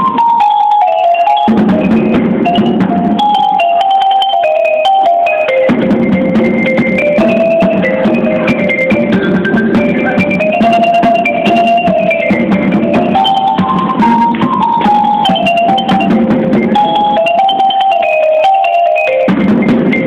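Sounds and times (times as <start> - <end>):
drums: 0.0 - 20.0
mallet percussion melody: 0.0 - 20.0.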